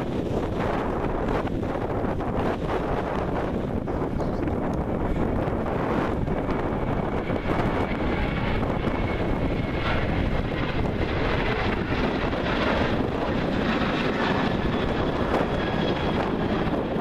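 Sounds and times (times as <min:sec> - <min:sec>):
jet airliner taking off: 0:00.0 - 0:17.0
wind buffeting microphone: 0:00.0 - 0:17.0.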